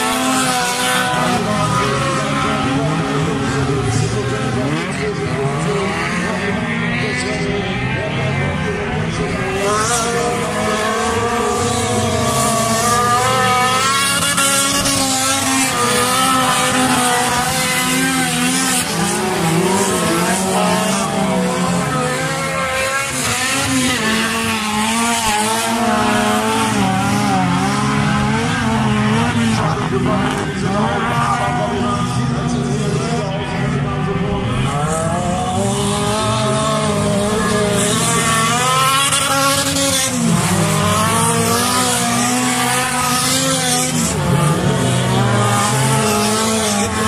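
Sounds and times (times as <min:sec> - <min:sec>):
racing car engines: 0:00.0 - 0:47.0.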